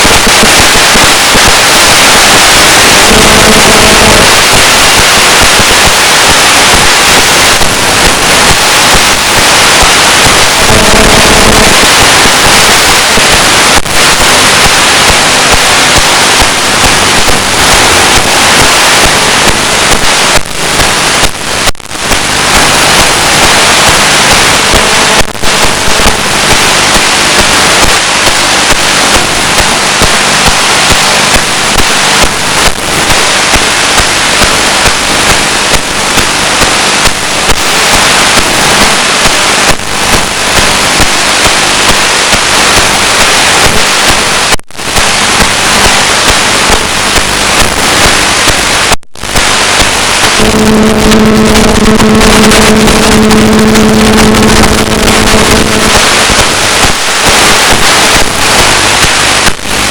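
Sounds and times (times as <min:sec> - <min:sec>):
crackling radio static: 0:00.0 - 0:59.9
mobile phone interference buzz: 0:00.0 - 0:59.9.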